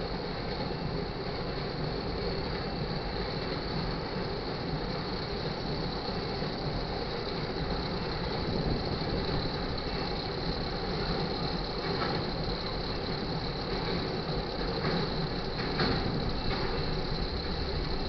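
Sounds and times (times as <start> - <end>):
train wheels clattering on rails: 0.0 - 18.0.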